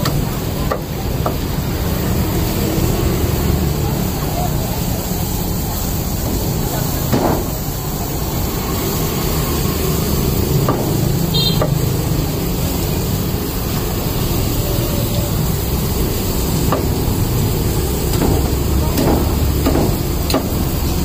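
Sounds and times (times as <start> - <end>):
low street rumble: 0.0 - 21.0.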